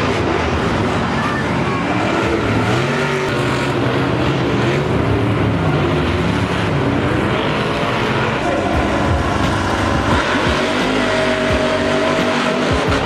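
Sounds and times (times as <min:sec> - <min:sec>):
engines revving: 0:00.0 - 0:13.0.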